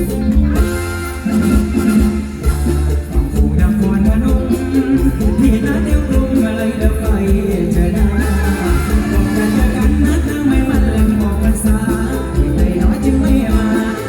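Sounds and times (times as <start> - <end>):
heavy bass beat: 0.0 - 14.0
live band playing amplified music: 0.0 - 14.0
person singing: 0.0 - 14.0.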